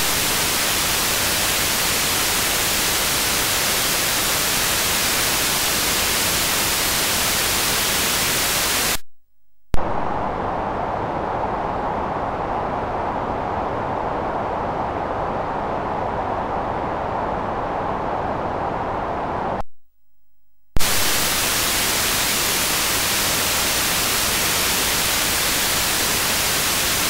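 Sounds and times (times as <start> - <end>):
pink noise: 0.0 - 9.0, 9.8 - 19.7, 20.8 - 27.0
white noise hiss: 0.0 - 9.0, 9.8 - 19.7, 20.8 - 27.0.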